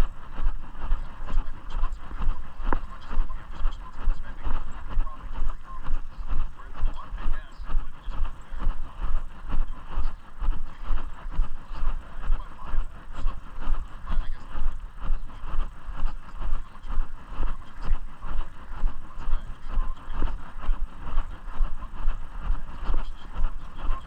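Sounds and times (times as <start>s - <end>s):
constant rustling: 0.0s - 24.0s.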